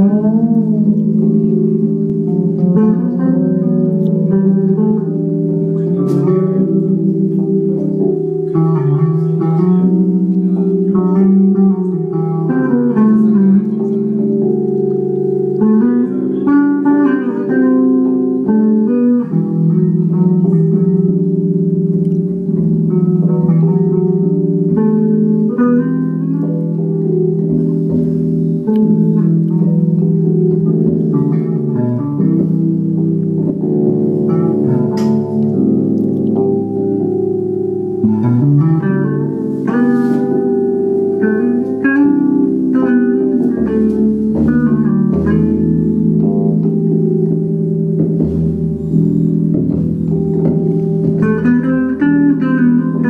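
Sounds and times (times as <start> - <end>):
electric bass guitars jamming: 0.0 - 53.0.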